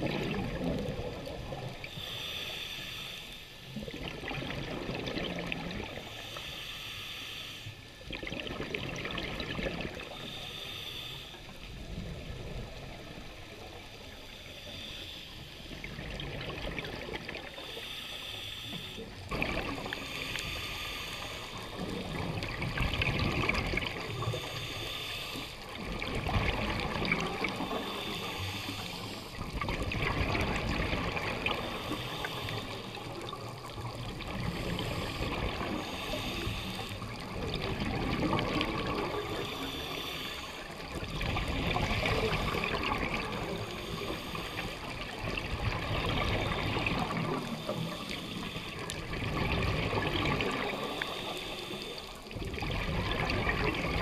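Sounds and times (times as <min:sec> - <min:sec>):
exhaled bubbles gurgling: 0:00.0 - 0:02.6, 0:03.7 - 0:06.3, 0:07.9 - 0:10.6, 0:11.4 - 0:17.9, 0:19.0 - 0:54.0
regulator inhale hiss: 0:01.1 - 0:03.8, 0:05.9 - 0:08.1, 0:10.0 - 0:16.2, 0:17.3 - 0:29.5, 0:30.3 - 0:49.4, 0:50.4 - 0:52.4.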